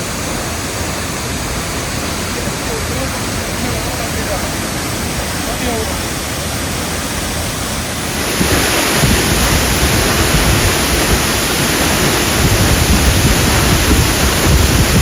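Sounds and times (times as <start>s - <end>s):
waterfall roaring: 0.0s - 15.0s
wind rumbling on microphone: 0.0s - 15.0s.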